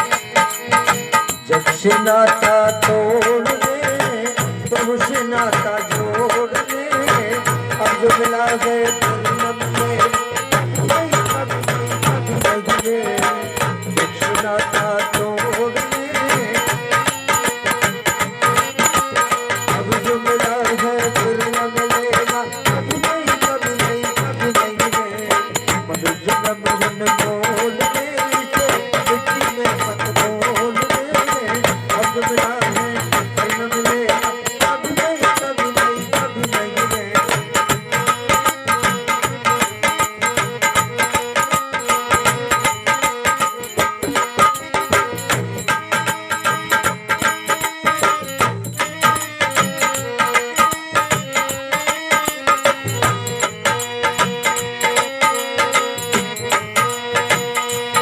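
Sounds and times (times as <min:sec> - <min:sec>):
dholak drumming fast rhythm: 0:00.0 - 0:58.0.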